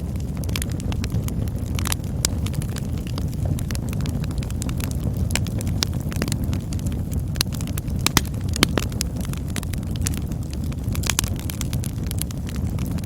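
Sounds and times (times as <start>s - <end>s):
campfire rumble: 0.0s - 13.0s
fire crackles and pops: 0.0s - 13.0s.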